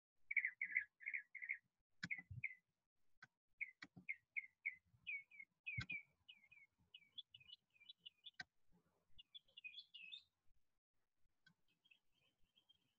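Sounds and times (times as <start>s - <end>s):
songbird chirping: 0.2s - 12.9s.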